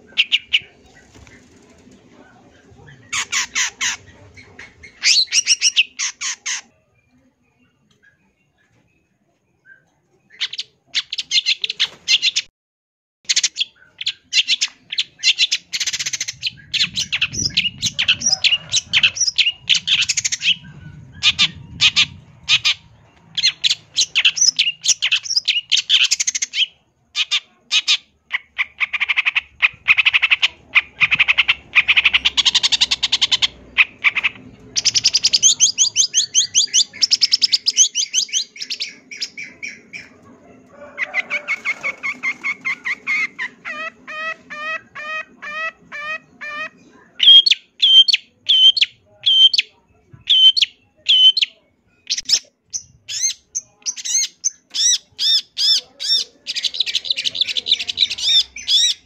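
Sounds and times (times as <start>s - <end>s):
bird singing rapid chatter: 0.0s - 6.7s, 13.3s - 40.2s, 41.1s - 59.0s.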